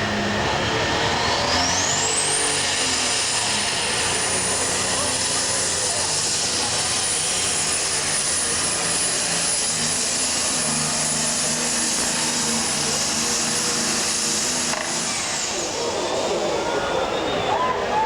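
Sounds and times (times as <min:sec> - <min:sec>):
high turbo whine: 0:00.0 - 0:18.0
loud diesel tractor engine: 0:00.0 - 0:18.0.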